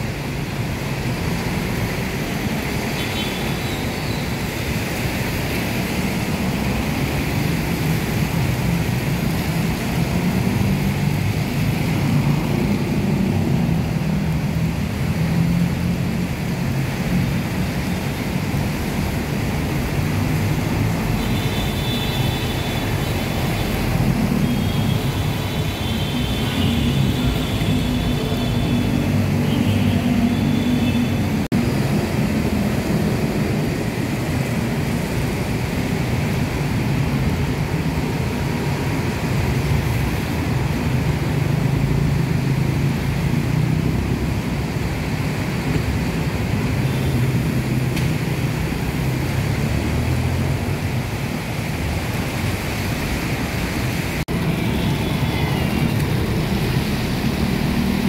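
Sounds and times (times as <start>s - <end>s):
road traffic engines: 0.0s - 58.0s
tyres hissing on wet road: 0.0s - 58.0s.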